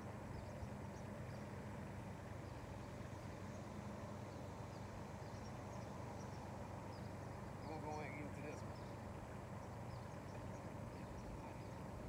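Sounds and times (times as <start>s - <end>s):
steady low hum: 0.0s - 12.0s
faint bird chirps: 2.3s - 12.0s.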